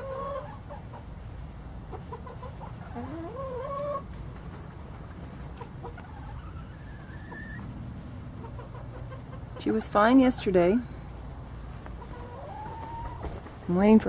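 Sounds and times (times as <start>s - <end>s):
hen clucking: 0.0s - 13.6s
low background rumble: 0.0s - 14.0s.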